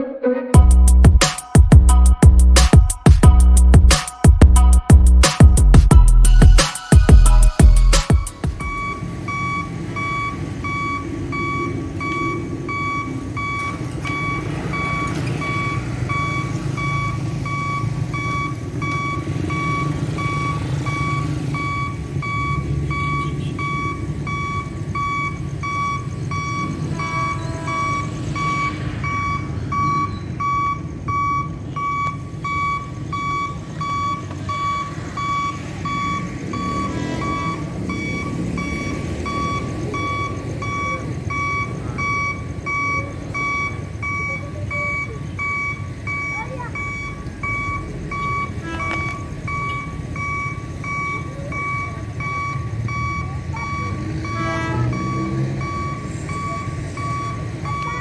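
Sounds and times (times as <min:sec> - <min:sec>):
motorbike engines: 0:00.0 - 0:58.0
road traffic: 0:00.0 - 0:58.0
level crossing alarm beeps: 0:00.6 - 0:58.0.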